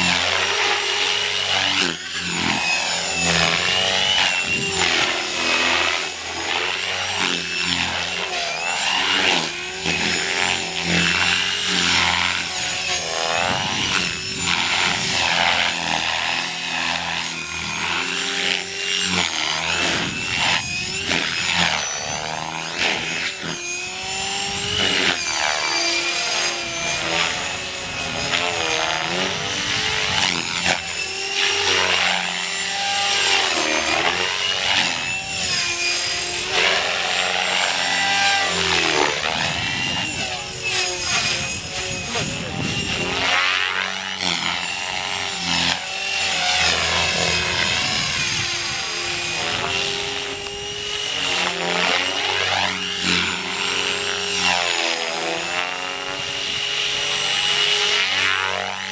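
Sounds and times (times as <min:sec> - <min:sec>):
helicopter rotor blades chopping: 0:00.0 - 0:58.9
motor and gears whining: 0:00.0 - 0:58.9.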